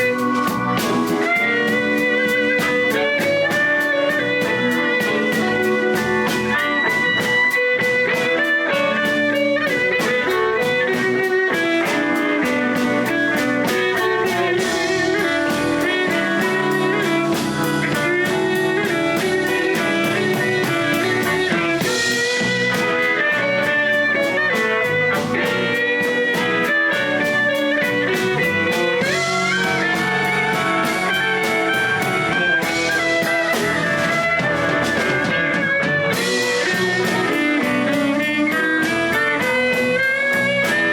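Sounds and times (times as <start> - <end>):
blues band playing: 0.0 - 40.9
electric guitar: 0.0 - 40.9.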